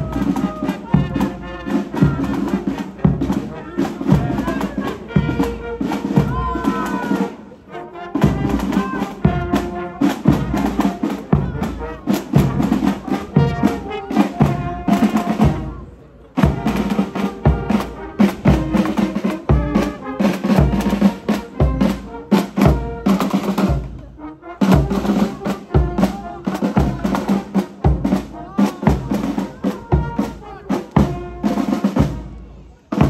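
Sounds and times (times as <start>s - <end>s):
marching band playing: 0.0s - 33.0s.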